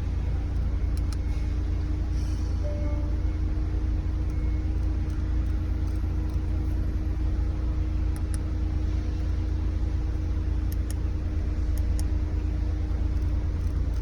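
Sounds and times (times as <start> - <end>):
low rumble with faint hum: 0.0 - 14.0.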